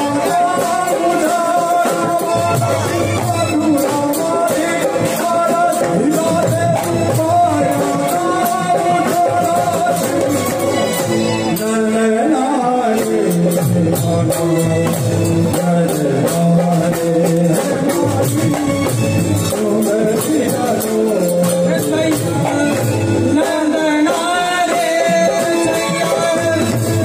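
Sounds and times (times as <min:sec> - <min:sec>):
hand drums beating: 0:00.0 - 0:11.8, 0:12.9 - 0:27.0
man singing: 0:00.0 - 0:27.0.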